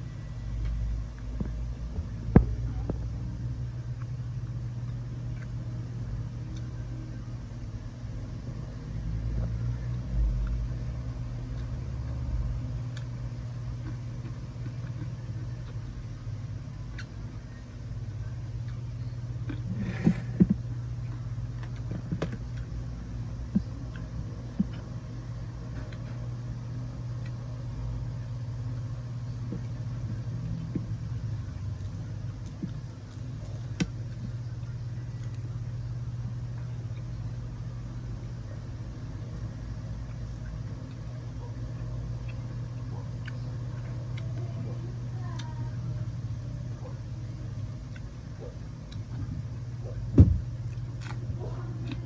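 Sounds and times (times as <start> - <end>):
low hum: 0.0 - 52.0.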